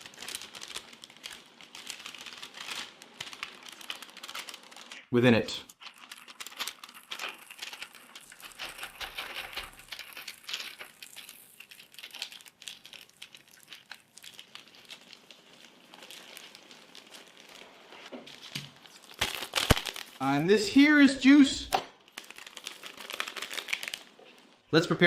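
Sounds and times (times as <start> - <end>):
plastic packaging crinkling: 0.0 - 21.1, 21.9 - 24.7.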